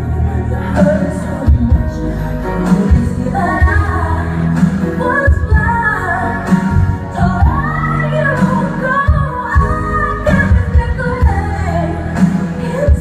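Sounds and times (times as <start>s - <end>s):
pop song with female vocals: 0.0s - 13.0s.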